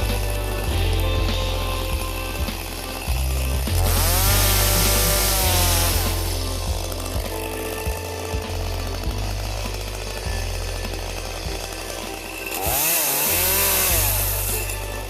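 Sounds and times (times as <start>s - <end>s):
chainsaw running: 0.0s - 15.0s
loud hiss: 0.0s - 15.0s.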